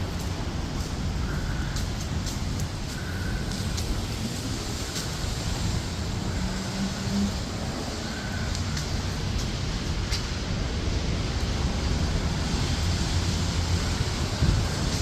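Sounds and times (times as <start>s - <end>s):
steady rain: 0.0s - 15.0s
wind rumbling on microphone: 0.0s - 15.0s.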